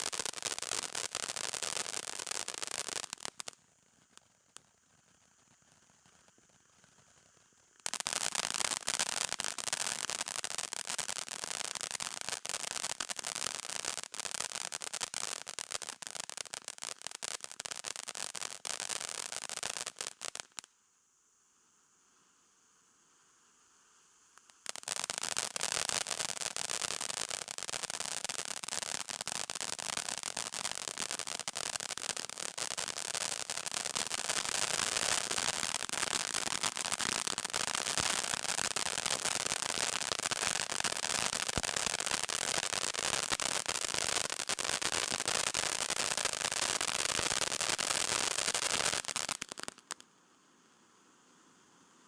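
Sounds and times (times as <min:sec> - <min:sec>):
firework fountain hissing and crackling: 0:00.0 - 0:52.0.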